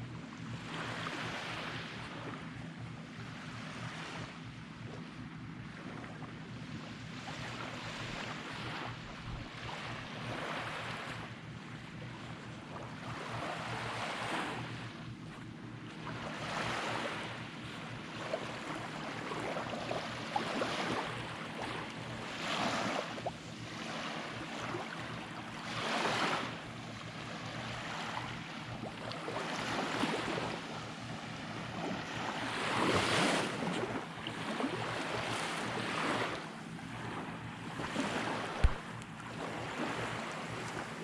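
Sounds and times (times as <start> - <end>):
small waves washing on sand: 6.6 - 41.0.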